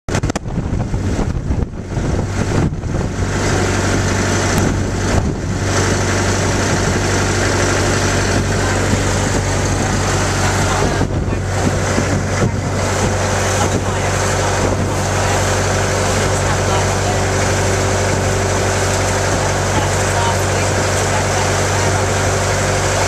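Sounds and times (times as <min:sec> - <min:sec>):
boat engine humming: 0:00.1 - 0:23.0
water rushing: 0:00.1 - 0:23.0.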